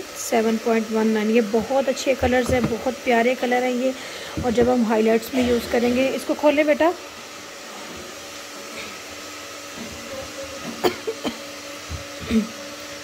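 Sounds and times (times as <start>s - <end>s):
electric motor hum: 0.0s - 13.0s.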